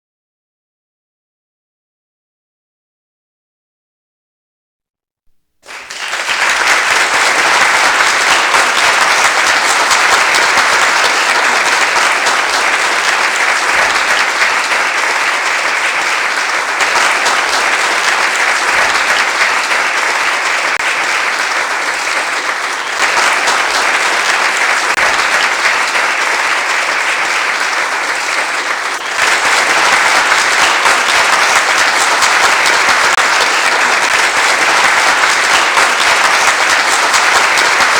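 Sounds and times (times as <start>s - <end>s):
large audience applauding: 5.6s - 37.9s.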